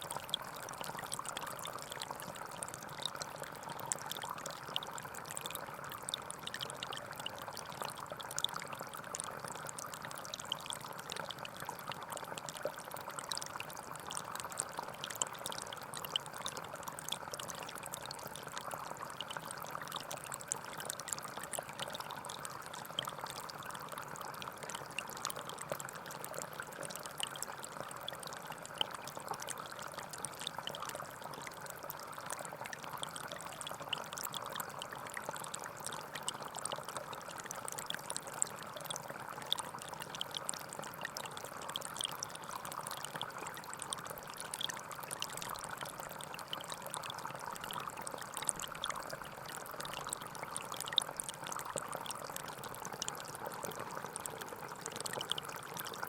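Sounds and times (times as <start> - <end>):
forest stream trickling: 0.0 - 56.0.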